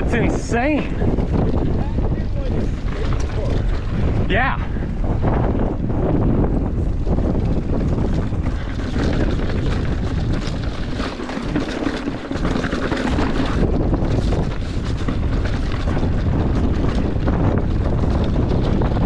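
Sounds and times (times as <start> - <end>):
bike ticking rattle: 0.0 - 19.0
bike tyre noise: 0.0 - 19.0
wind rushing over microphone: 0.0 - 19.0.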